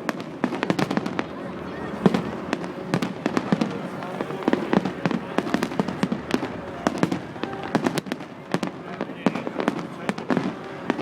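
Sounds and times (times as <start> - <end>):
fireworks cracking and popping: 0.0 - 11.0
steady background noise: 0.0 - 11.0.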